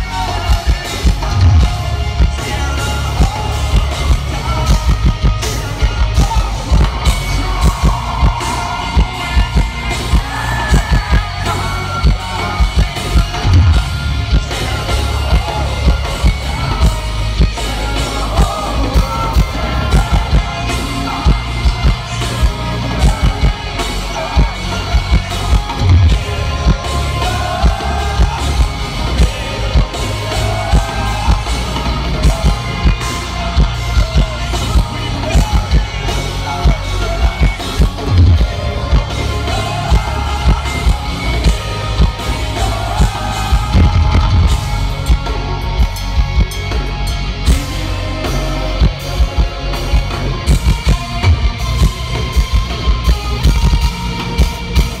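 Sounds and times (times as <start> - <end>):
person singing: 0.0 - 46.7
distorted electric guitars: 0.0 - 55.0
pounding drum kit: 0.0 - 55.0.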